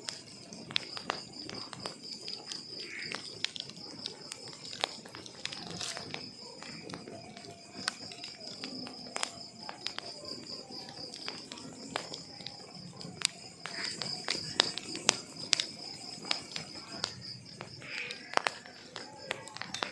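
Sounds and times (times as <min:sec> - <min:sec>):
logs crackling and popping: 0:00.0 - 0:19.9.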